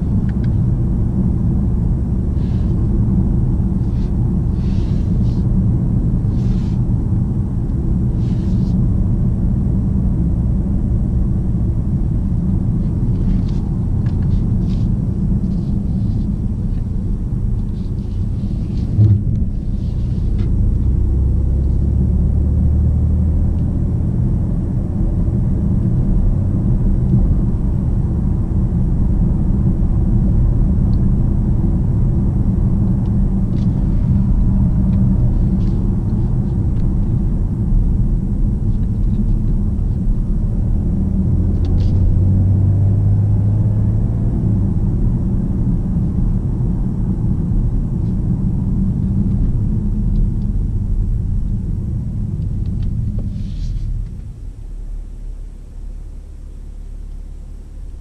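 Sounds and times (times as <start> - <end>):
diesel engine rumble: 0.0 - 58.0.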